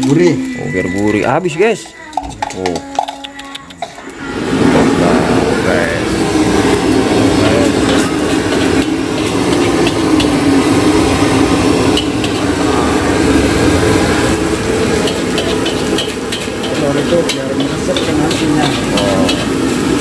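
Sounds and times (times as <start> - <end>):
gas burner roaring: 0.0 - 20.0
metal spatula scraping wok: 0.0 - 20.0
rice frying: 0.0 - 20.0.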